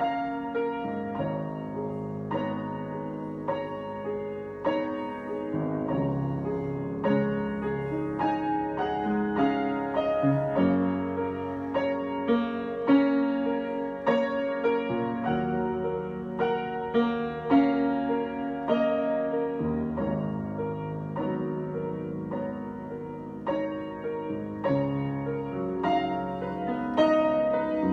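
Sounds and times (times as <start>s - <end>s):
solo piano: 0.0s - 27.9s.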